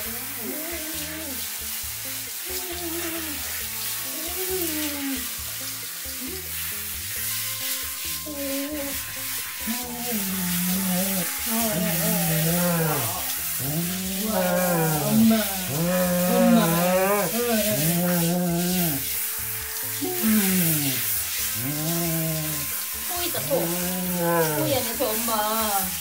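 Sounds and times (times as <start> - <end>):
background music melody: 0.0 - 26.0
shower water spraying: 0.0 - 26.0.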